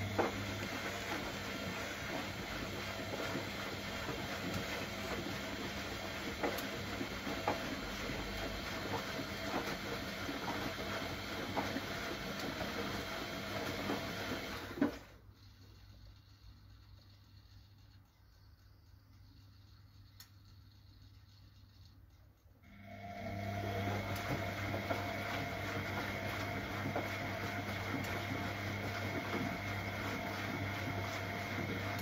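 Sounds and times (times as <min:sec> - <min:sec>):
washing machine running: 0:00.0 - 0:32.0.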